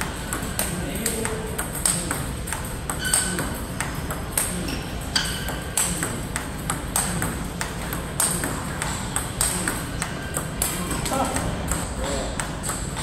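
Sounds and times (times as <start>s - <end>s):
ping pong ball bouncing on table: 0.0s - 13.0s
ping pong ball clicking off paddles: 0.0s - 13.0s.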